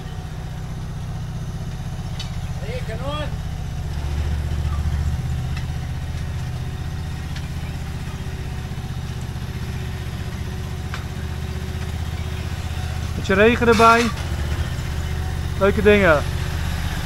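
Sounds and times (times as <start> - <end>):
mini loader engine droning: 0.0 - 17.0.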